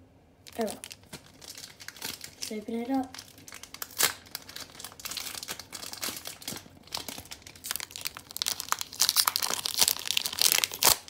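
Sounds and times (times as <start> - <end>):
foil wrapper crinkling: 0.5 - 11.0.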